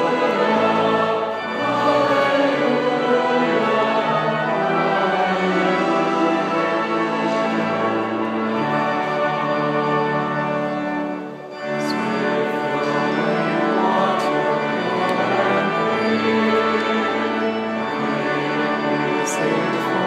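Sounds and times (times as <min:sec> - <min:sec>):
choir and congregation singing hymn: 0:00.0 - 0:20.0
pipe organ: 0:00.0 - 0:20.0.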